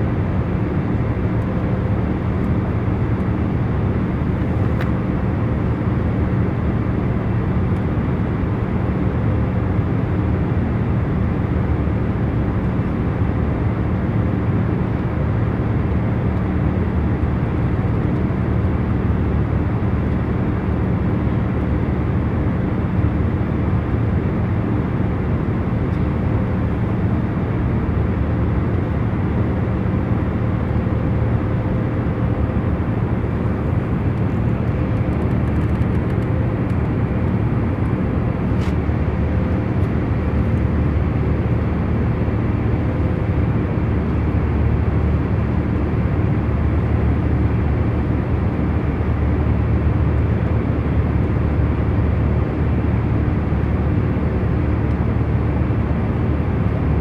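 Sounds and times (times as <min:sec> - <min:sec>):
airliner cabin engine and air noise: 0:00.0 - 0:57.0.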